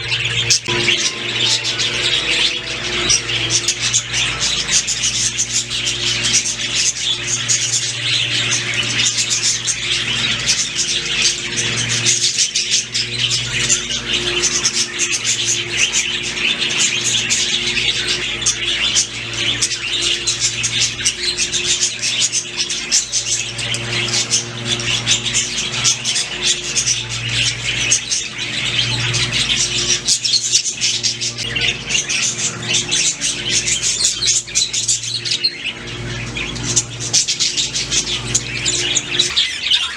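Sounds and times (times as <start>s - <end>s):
budgerigars chirping: 0.0s - 39.9s
steady low hum: 0.0s - 39.9s.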